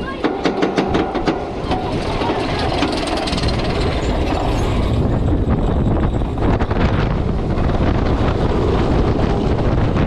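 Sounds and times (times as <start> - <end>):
roller coaster wheels rumbling on track: 0.0 - 10.0
wind rushing over microphone: 0.0 - 10.0.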